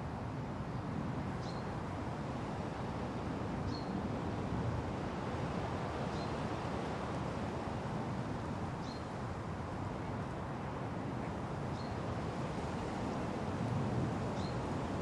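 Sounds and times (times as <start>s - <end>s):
wind rustling through trees: 0.0s - 15.0s.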